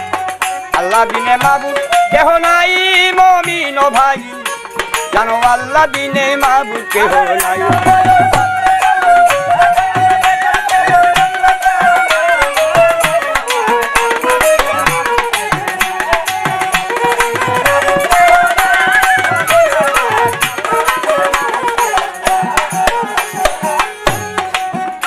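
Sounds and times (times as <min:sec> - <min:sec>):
bamboo flute: 0:00.0 - 0:03.7, 0:06.7 - 0:25.0
fast barrel drum beats: 0:00.0 - 0:25.0
harmonium: 0:00.0 - 0:25.0.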